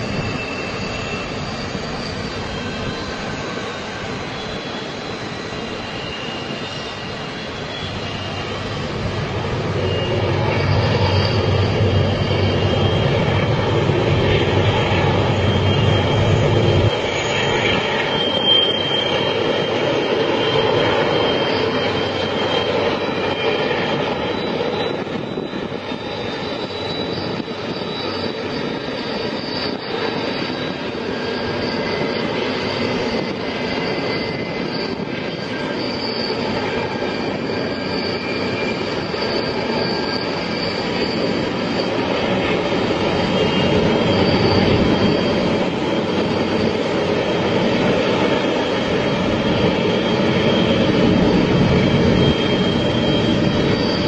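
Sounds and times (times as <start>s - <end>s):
freight train rumbling past: 0.0s - 54.0s
wheels squealing: 0.0s - 54.0s.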